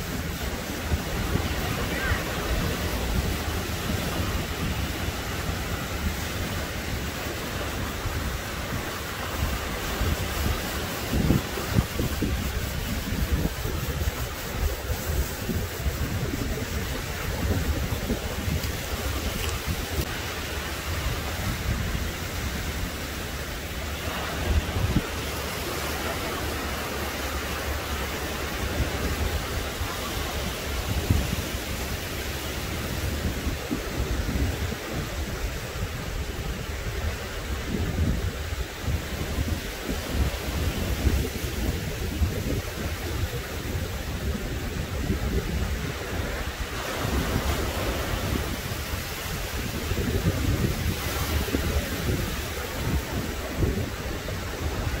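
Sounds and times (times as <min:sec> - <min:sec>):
small waves breaking on sand: 0:00.0 - 0:55.0
wind rumble on microphone: 0:00.0 - 0:55.0.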